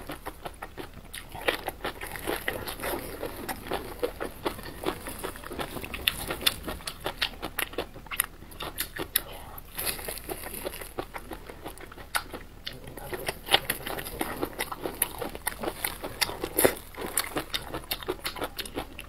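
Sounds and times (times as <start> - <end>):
chewing soft peppers: 0.0 - 19.0.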